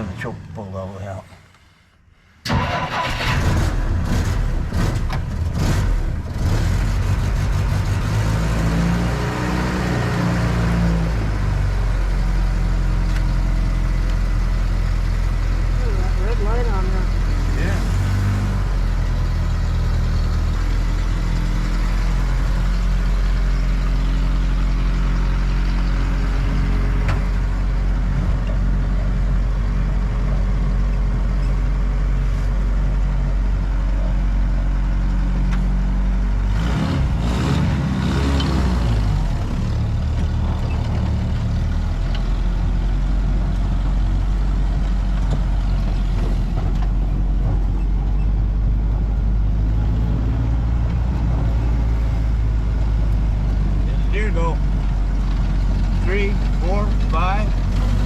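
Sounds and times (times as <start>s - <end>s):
car engine running: 11.1s - 58.0s.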